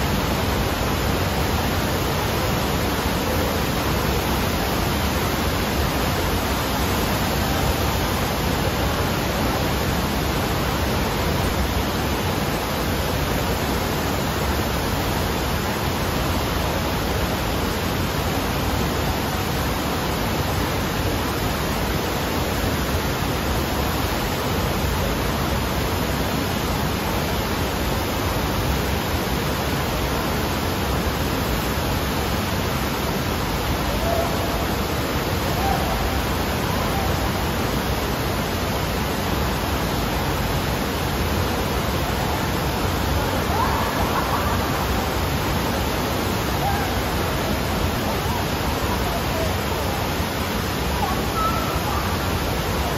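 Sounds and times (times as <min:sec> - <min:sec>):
water rushing up a slope: 0:00.0 - 0:52.9.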